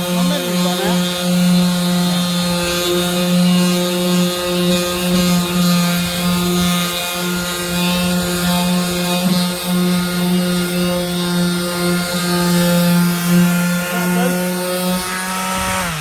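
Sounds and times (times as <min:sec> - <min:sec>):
heat gun motor hum: 0:00.0 - 0:16.0.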